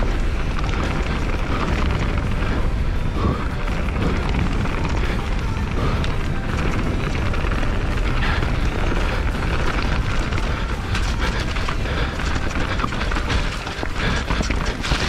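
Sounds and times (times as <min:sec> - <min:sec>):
bike rattling and clicking: 0:00.0 - 0:15.0
mountain bike tyre rumble: 0:00.0 - 0:15.0
wind buffeting microphone: 0:00.0 - 0:15.0.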